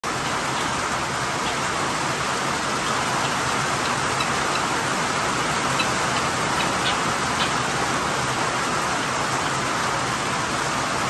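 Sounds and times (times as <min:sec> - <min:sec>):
rain on a tin roof: 0:00.0 - 0:11.0.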